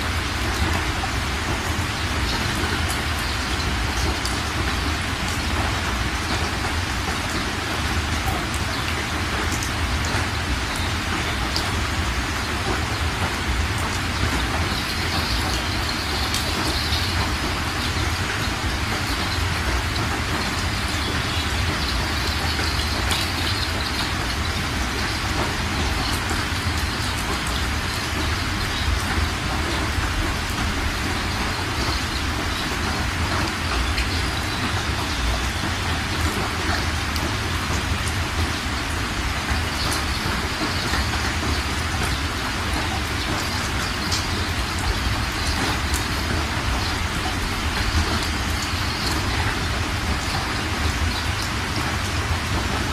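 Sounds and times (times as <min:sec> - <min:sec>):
floodwater rushing over stones: 0:00.0 - 0:52.9.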